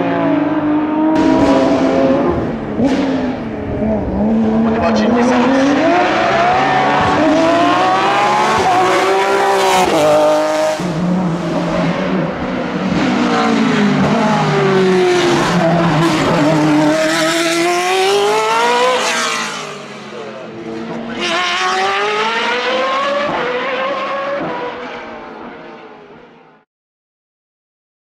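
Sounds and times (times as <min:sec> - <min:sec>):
racing car engines accelerating: 0:00.0 - 0:26.2.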